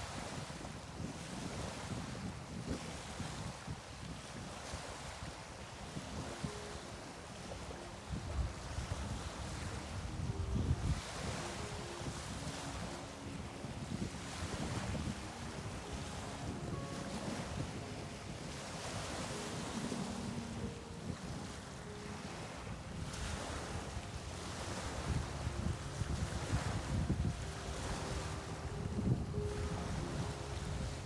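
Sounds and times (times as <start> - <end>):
wind rumbling on microphone: 0.0 - 31.0
ocean waves washing in: 6.1 - 31.0.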